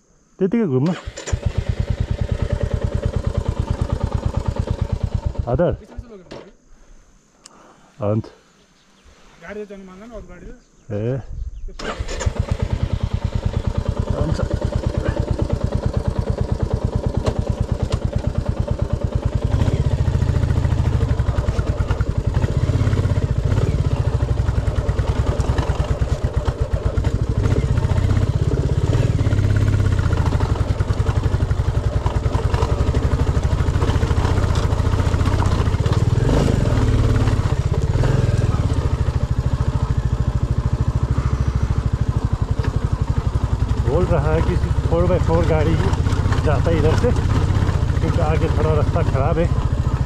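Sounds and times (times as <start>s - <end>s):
motorcycle engine rumbling: 0.0s - 50.0s.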